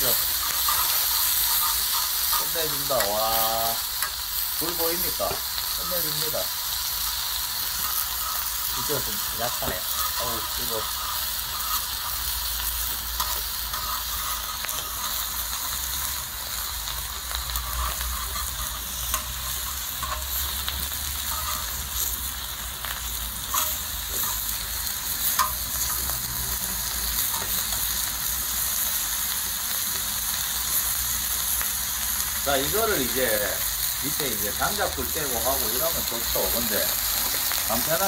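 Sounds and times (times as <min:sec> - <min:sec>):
meat sizzling in fat: 0:00.0 - 0:38.0.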